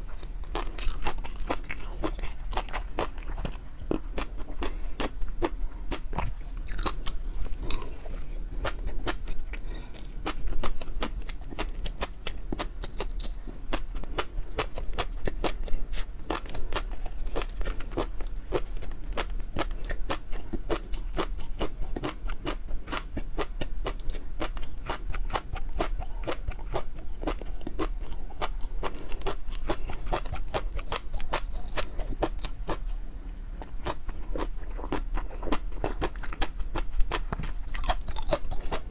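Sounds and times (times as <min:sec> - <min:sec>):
chewing food: 0:00.0 - 0:33.0, 0:33.6 - 0:38.9.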